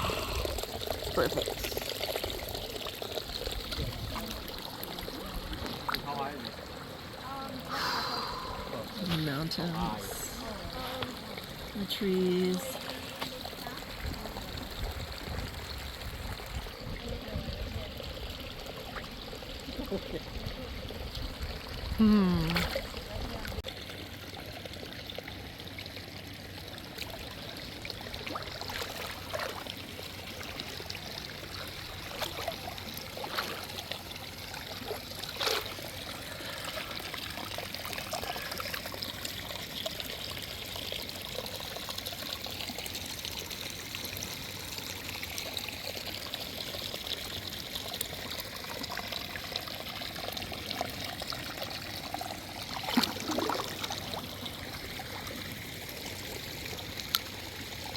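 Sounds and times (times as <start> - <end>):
water pouring and trickling: 0.0 - 57.9.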